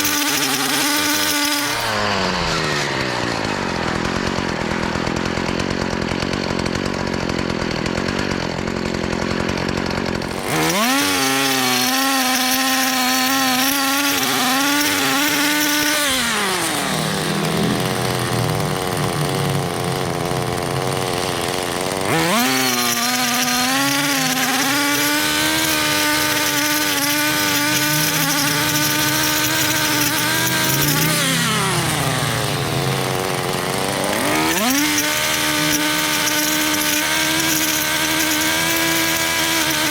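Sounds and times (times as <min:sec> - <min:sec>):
steady machine noise: 0:00.0 - 0:39.9
two-stroke power tool engine revving: 0:00.0 - 0:39.9.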